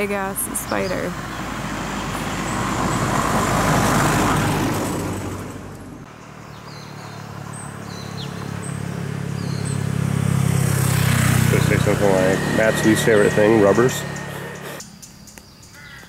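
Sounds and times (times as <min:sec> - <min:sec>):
motor scooter engine humming: 0:00.0 - 0:14.8
vehicle passing: 0:00.0 - 0:14.8.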